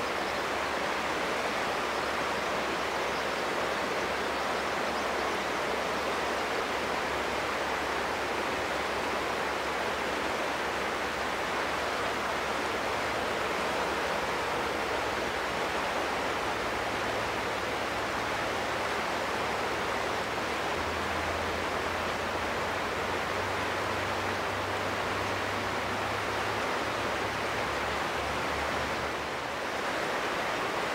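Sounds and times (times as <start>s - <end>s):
fast-flowing river rushing: 0.0s - 30.9s.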